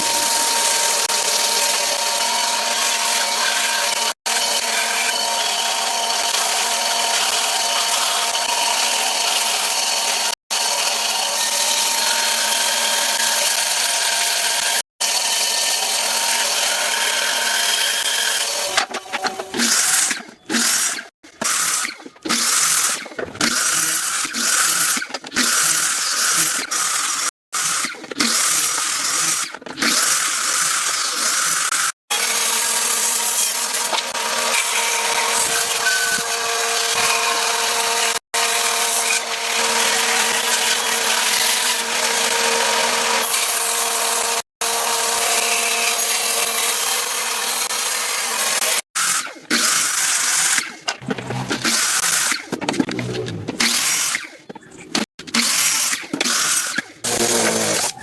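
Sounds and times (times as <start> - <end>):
power tools whining on wood: 0.0 - 54.6, 55.4 - 58.0.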